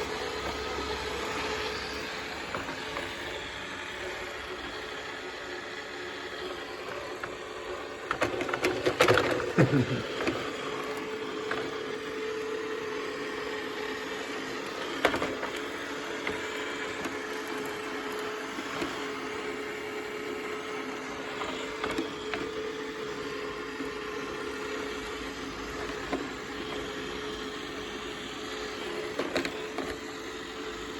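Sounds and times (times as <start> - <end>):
robot vacuum cleaner humming: 0.0 - 30.9.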